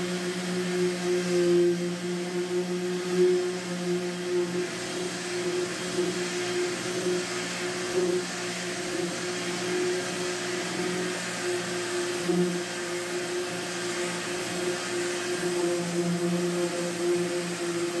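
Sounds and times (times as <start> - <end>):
orbital sander with vacuum humming: 0.0 - 18.0.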